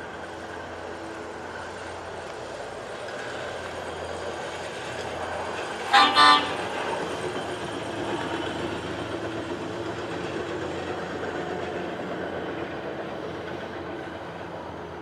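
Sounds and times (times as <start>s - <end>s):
truck rumbling along rails: 0.0s - 15.0s.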